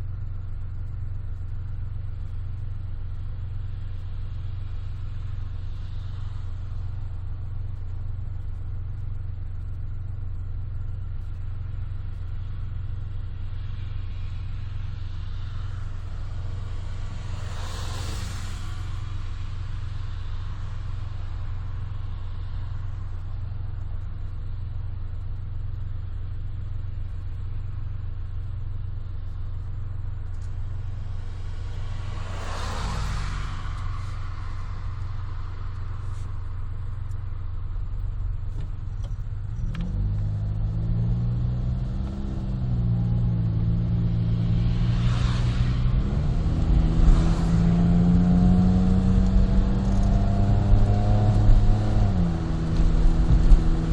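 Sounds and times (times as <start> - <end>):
car engine and exhaust drone: 0.0 - 53.9.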